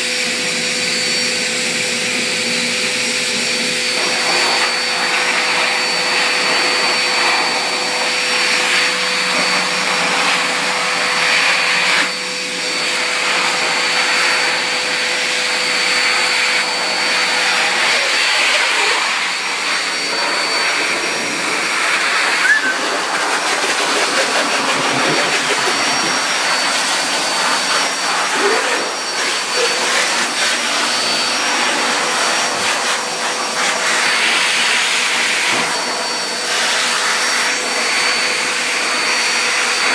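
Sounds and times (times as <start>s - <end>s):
pet grooming dryer blowing: 0.0s - 39.9s.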